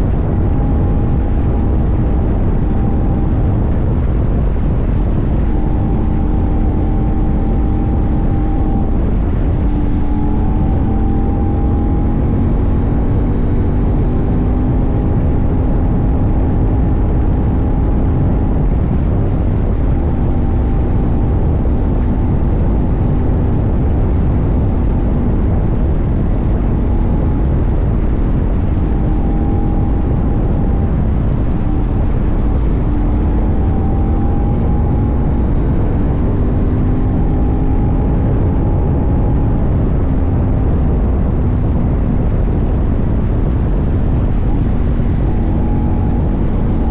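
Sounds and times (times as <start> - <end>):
motorcycle engine cruising: 0.0 - 46.9
wind rumble: 0.0 - 46.9.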